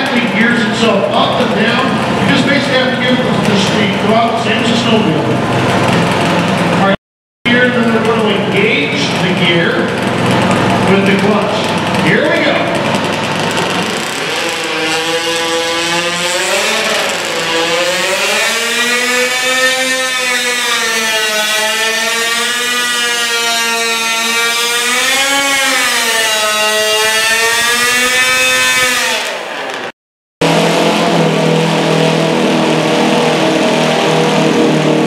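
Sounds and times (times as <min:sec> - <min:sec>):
lawn tractor engine under load: 0:00.0 - 0:35.0.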